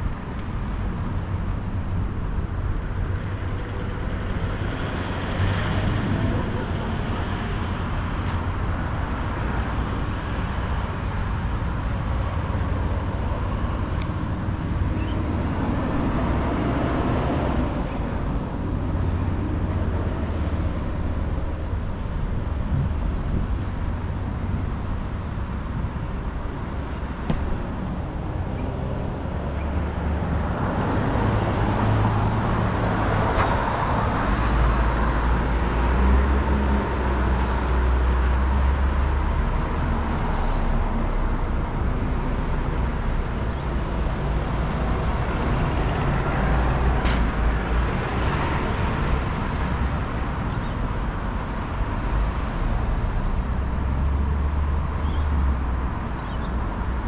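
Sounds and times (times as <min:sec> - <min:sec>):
road traffic rumble: 0:00.0 - 0:57.0
vehicles passing: 0:00.0 - 0:57.0.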